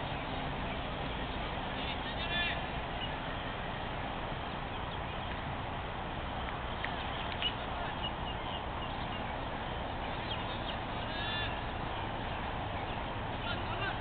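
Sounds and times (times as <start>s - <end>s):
outdoor rumble: 0.0s - 14.0s
distant players shouting: 0.6s - 14.0s.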